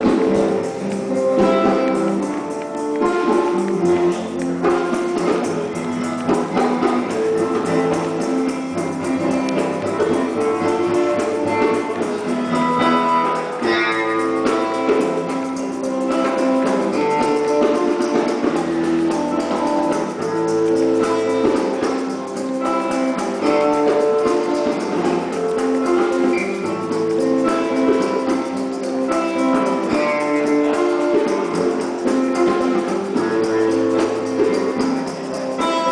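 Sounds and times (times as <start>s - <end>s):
guitar over sustained chords: 0.0s - 35.9s.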